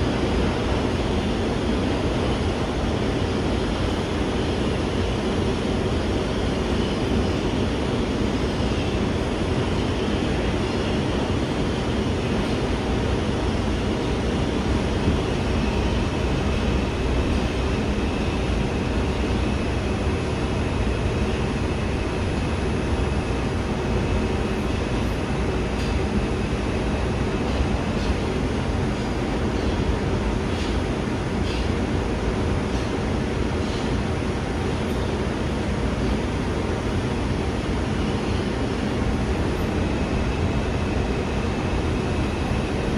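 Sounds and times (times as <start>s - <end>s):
subway train wheels rumbling: 0.0s - 42.9s.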